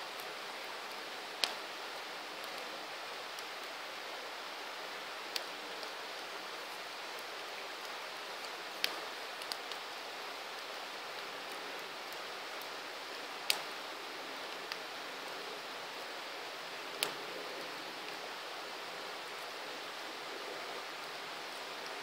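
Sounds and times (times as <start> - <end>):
campfire hissing: 0.0 - 22.0
fire crackles and pops: 0.0 - 22.0.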